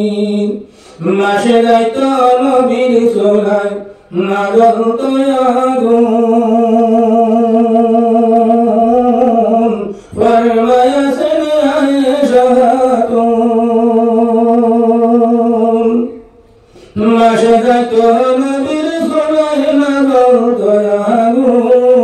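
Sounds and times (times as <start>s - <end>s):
man singing into a microphone: 0.0s - 16.3s, 16.9s - 22.0s.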